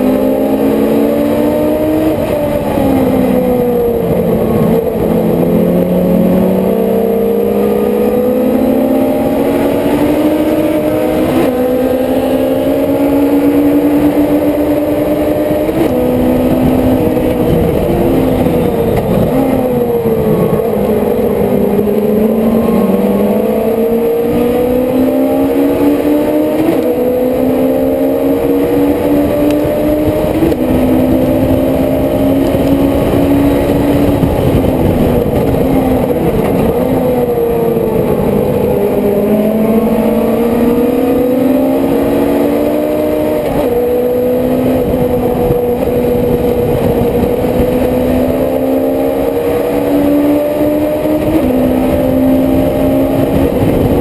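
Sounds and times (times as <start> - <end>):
race car engine accelerating: 0.0 - 54.0
wind rushing over microphone: 0.0 - 54.0.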